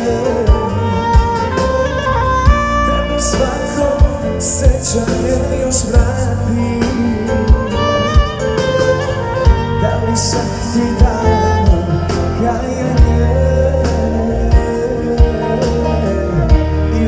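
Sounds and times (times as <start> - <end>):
drum kit steady beat: 0.0 - 17.0
live band music: 0.0 - 17.0
man singing into a microphone: 0.0 - 17.0.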